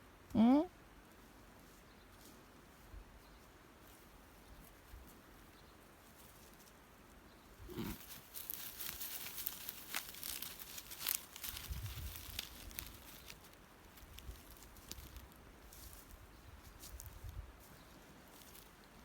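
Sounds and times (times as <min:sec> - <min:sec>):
rustling and crackling: 0:01.2 - 0:19.0.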